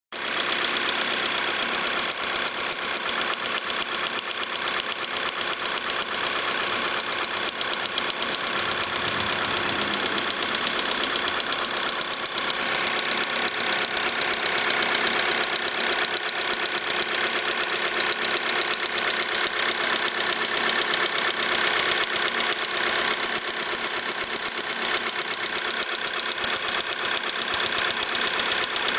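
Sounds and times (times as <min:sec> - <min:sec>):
diesel engine ticking knock: 0:00.2 - 0:28.9.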